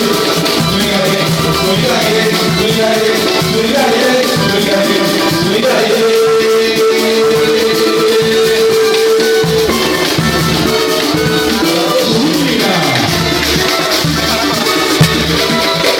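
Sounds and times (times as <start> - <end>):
samba band music: 0.0 - 15.9.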